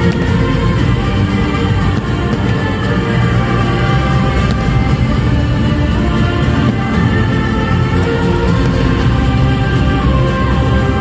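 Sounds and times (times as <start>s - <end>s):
dense instrumental soundtrack: 0.0s - 11.0s.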